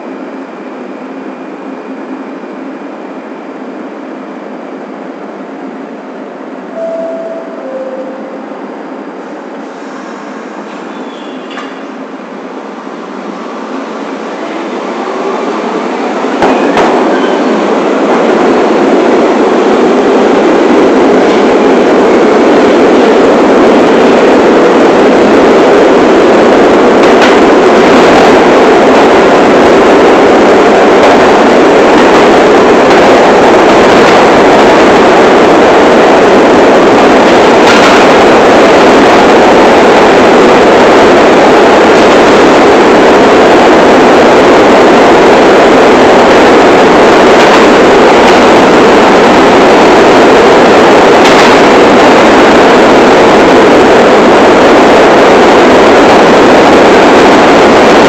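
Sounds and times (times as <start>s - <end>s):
subway train wheels on rails: 0.0s - 58.0s.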